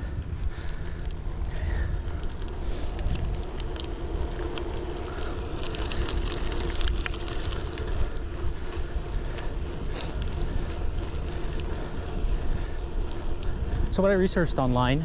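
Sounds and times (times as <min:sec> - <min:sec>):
light ticks and rattles: 0:00.0 - 0:15.0
wind rumbling on microphone: 0:00.0 - 0:15.0.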